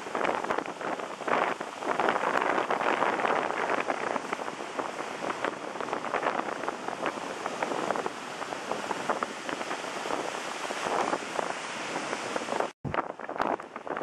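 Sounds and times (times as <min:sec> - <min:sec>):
ocean surf rushing: 0:00.0 - 0:14.0
wind buffeting microphone: 0:00.0 - 0:14.0.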